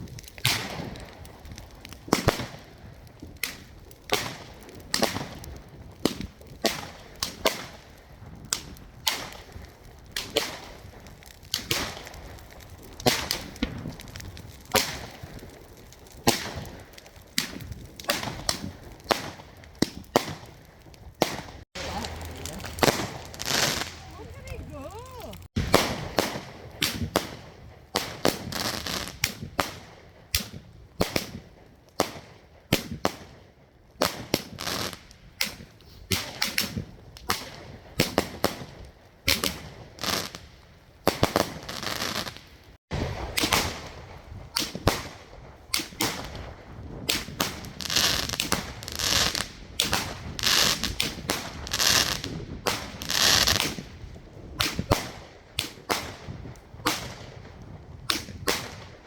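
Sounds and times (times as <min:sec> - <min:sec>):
fireworks crackling: 0:00.0 - 0:33.3, 0:34.0 - 0:59.0
fireworks bangs and pops: 0:00.0 - 0:59.0.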